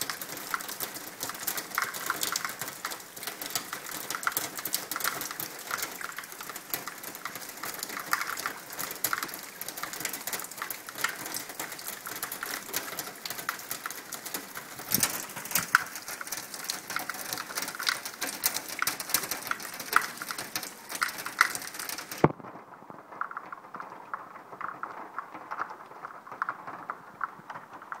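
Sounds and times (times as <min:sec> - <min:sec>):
rainwater splashing down a wall: 0:00.0 - 0:28.0.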